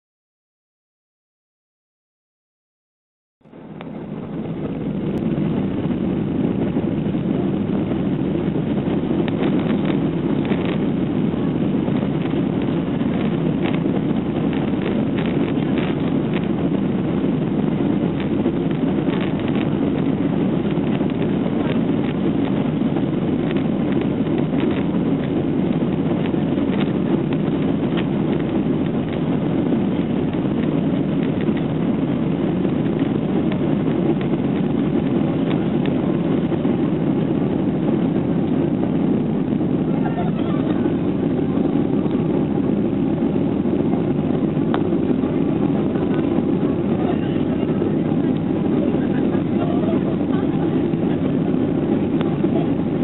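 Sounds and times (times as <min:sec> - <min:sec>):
jet engines rumbling in cabin: 0:03.4 - 0:53.0.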